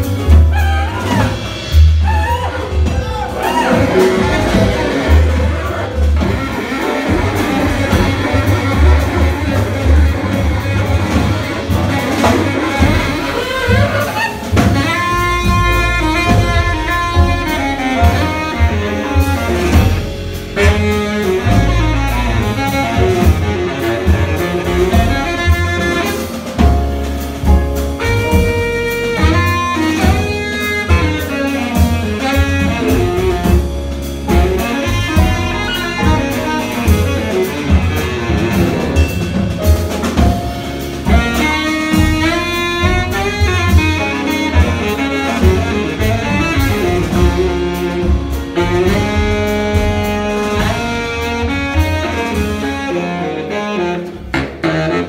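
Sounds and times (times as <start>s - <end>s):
baritone saxophone: 0.0s - 55.0s
double bass: 0.0s - 55.0s
drum kit: 0.0s - 55.0s
piano: 0.0s - 55.0s.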